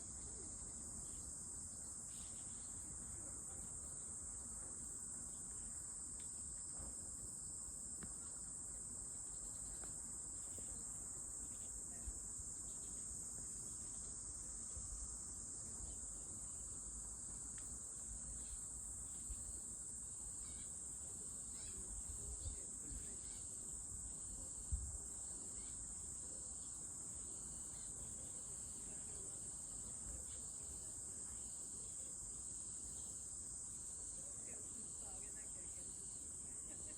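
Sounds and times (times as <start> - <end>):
insects droning: 0.0 - 36.9.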